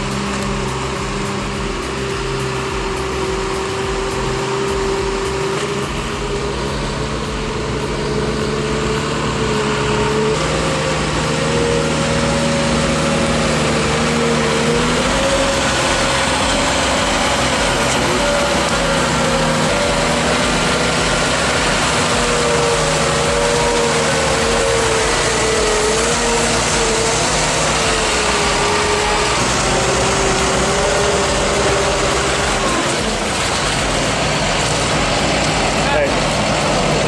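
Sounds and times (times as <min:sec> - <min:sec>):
heavy machine engine running: 0:00.0 - 0:37.0.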